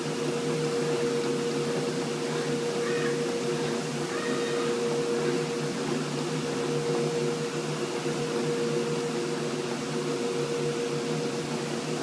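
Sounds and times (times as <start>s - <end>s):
cutting machine humming: 0.0s - 12.0s.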